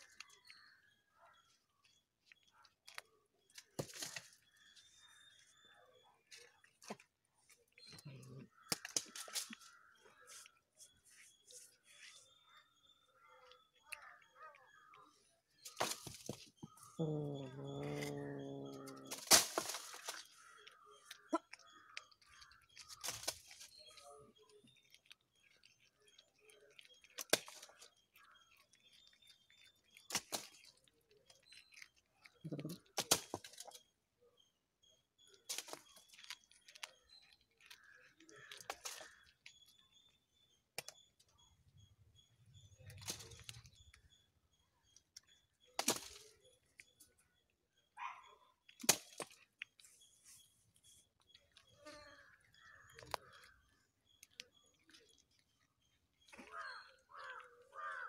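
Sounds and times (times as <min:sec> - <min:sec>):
kitten chewing and crunching: 0:00.0 - 0:47.9, 0:48.5 - 0:58.0.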